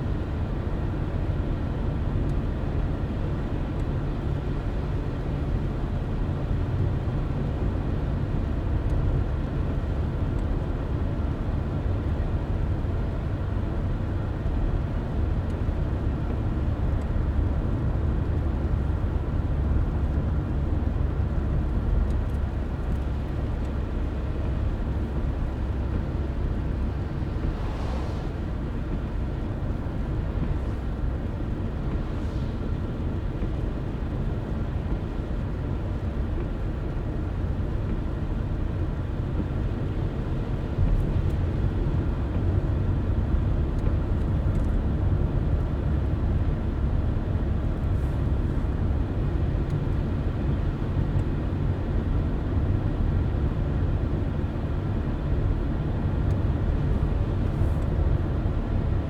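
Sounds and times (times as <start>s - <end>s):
car tyres and engine rumbling: 0.0s - 59.0s.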